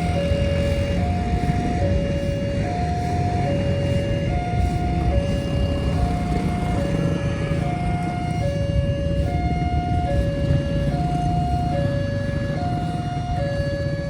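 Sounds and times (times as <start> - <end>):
level crossing two-tone alarm: 0.0 - 14.0.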